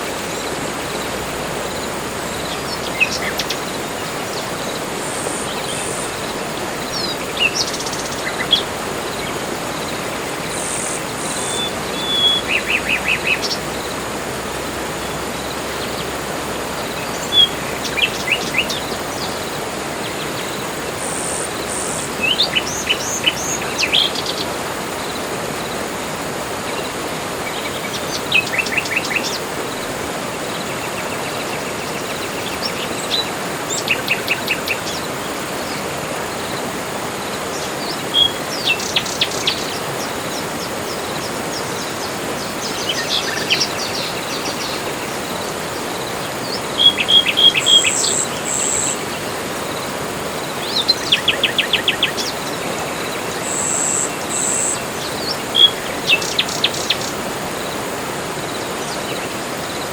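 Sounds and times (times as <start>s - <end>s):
forest birds chirping: 0.0s - 59.9s
steady hiss: 0.0s - 59.9s.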